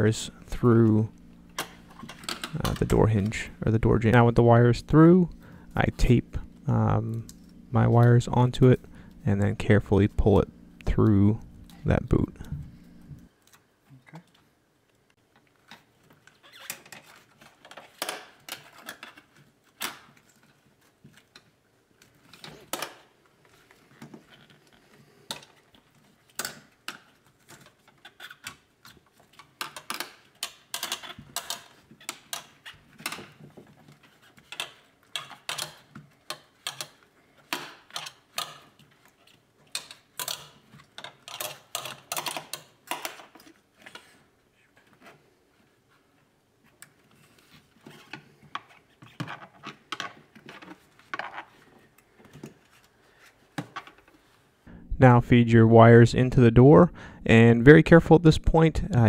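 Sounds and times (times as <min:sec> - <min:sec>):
wiring clicking and rustling: 0:00.6 - 0:04.4, 0:05.9 - 0:54.3.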